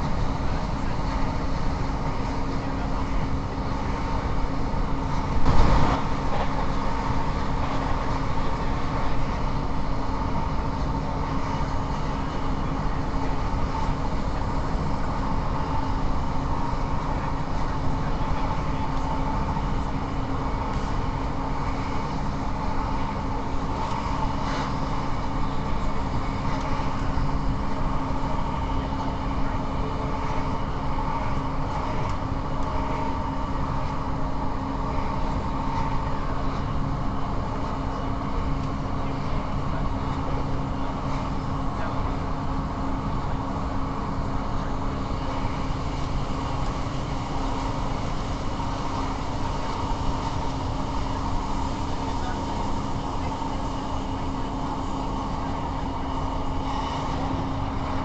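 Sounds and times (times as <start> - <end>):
diesel engine drone: 0.0 - 58.0
train wheels running on track: 0.0 - 58.0.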